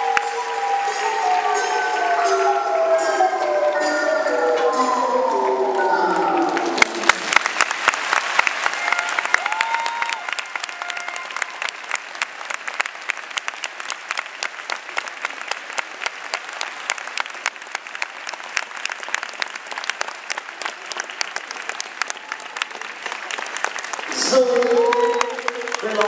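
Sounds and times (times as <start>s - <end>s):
audience applauding: 0.0s - 3.9s, 5.3s - 26.0s.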